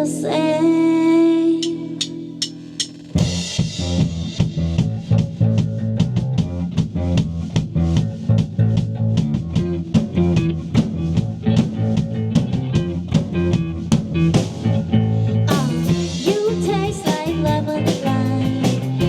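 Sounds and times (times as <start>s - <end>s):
bass: 0.0s - 19.0s
guitar: 0.0s - 19.0s
drum kit beat: 1.6s - 14.8s, 15.5s - 19.0s.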